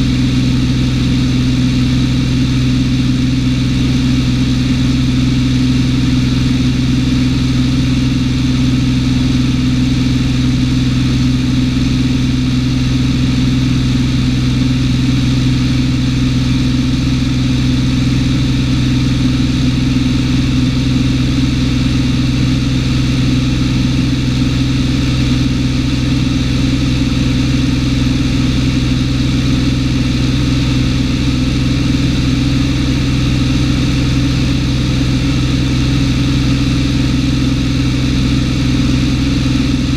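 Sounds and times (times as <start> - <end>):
propeller plane engine in flight: 0.0 - 39.9.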